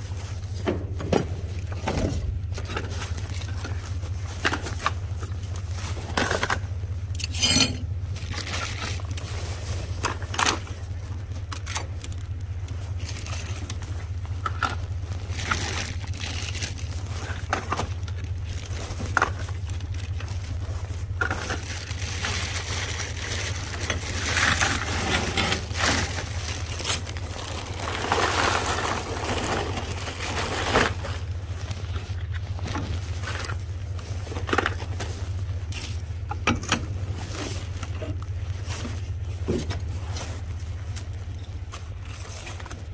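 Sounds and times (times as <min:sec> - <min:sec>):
plastic bags rustling: 0:00.0 - 0:42.9
steady low hum: 0:00.0 - 0:42.9.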